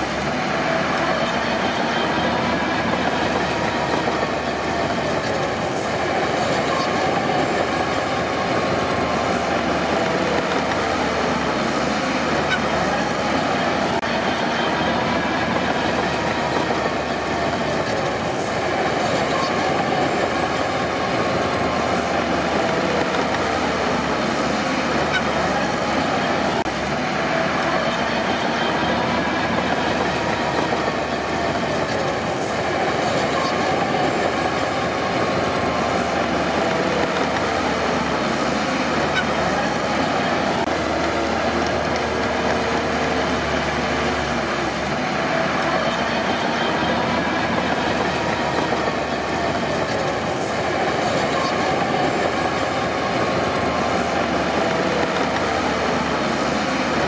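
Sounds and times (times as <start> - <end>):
bulldozer diesel engine under load: 0.0 - 57.0
steel tracks clanking and squealing: 0.0 - 57.0.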